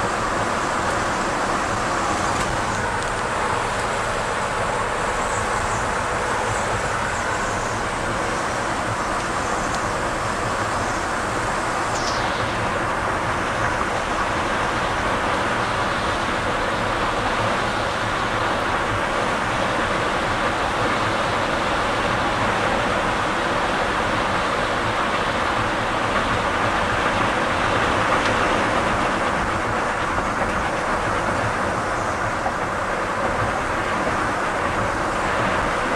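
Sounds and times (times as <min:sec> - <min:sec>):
truck engine and road noise: 0:00.0 - 0:35.9.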